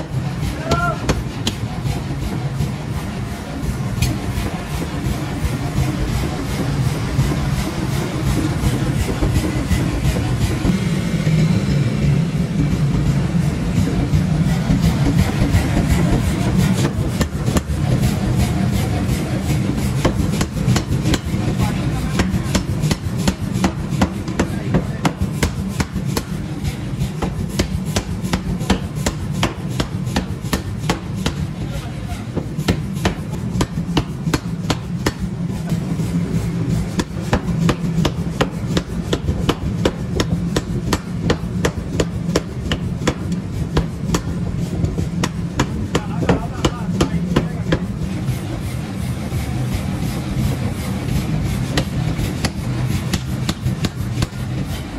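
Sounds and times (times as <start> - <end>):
machine low drone: 0.0 - 54.9
power hammer pounding steel: 0.0 - 54.9.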